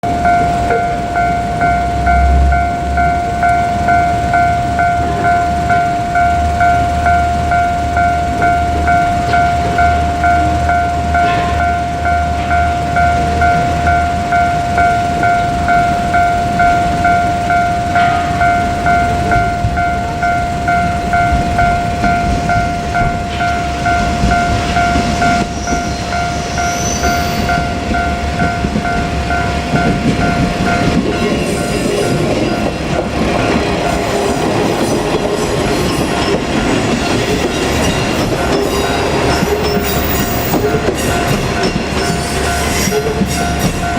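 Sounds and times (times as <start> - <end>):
diesel railcar rumble: 0.0 - 43.9
level-crossing alarm ringing: 0.0 - 43.9.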